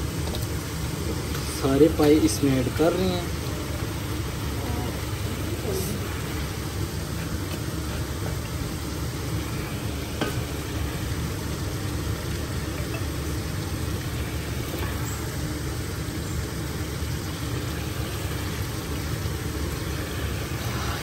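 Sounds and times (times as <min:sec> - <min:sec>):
masala sizzling in a pot: 0:00.0 - 0:21.0.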